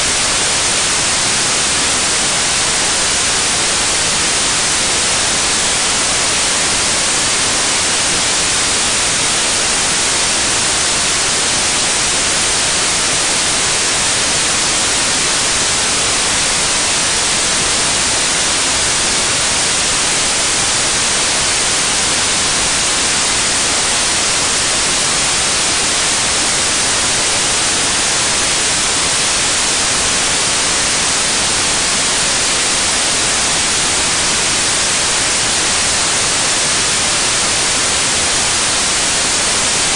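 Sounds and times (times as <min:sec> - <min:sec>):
loud steady hiss: 0:00.0 - 0:39.9.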